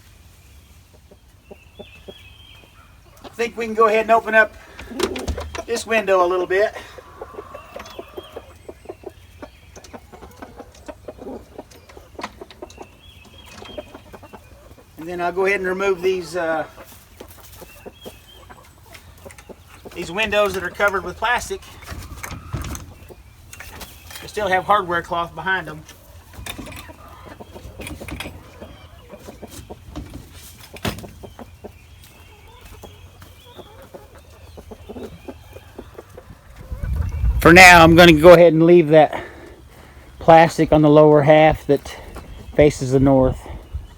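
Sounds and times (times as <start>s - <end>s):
hens clucking: 0.6s - 43.9s.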